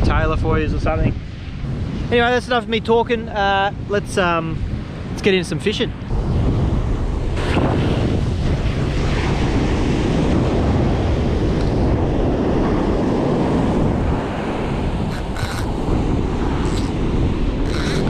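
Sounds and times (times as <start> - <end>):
wind noise on microphone: 0.0 - 18.0
ocean surf breaking: 1.4 - 18.0.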